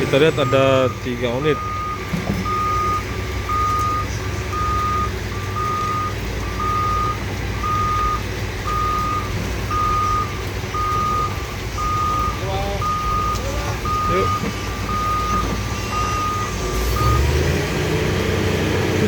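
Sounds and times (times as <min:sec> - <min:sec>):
diesel engines rumbling: 0:00.0 - 0:19.0
back-up alarm beeping: 0:00.2 - 0:17.3.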